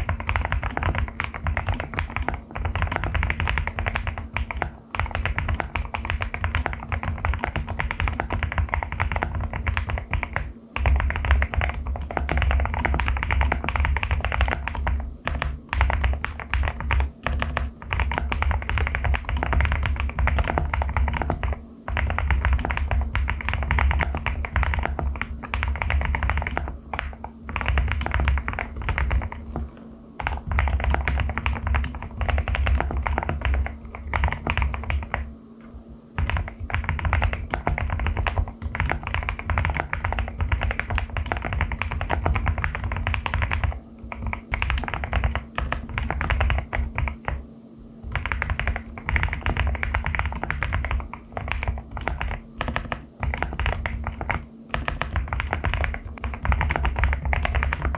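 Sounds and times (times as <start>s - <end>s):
fast mechanical keyboard typing: 0.0s - 35.3s, 36.2s - 47.4s, 48.0s - 57.9s.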